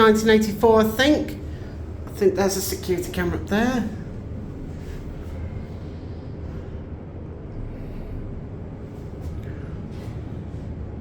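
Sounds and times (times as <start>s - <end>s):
elevator hum and rumble: 0.0s - 11.0s.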